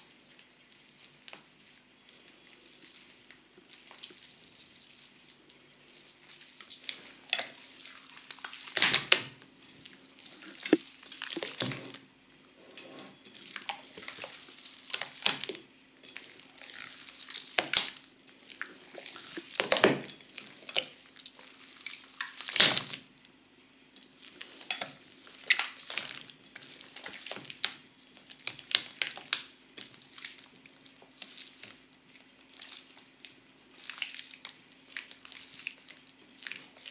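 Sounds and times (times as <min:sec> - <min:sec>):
wet slime squelching: 0:00.1 - 0:12.1, 0:13.3 - 0:23.1, 0:24.0 - 0:36.9.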